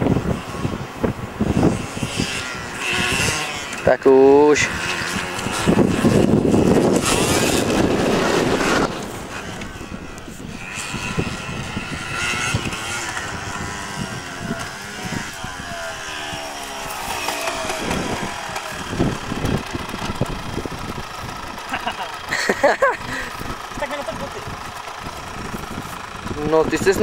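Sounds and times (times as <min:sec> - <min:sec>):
motorcycle engine revving past: 0:00.0 - 0:27.0.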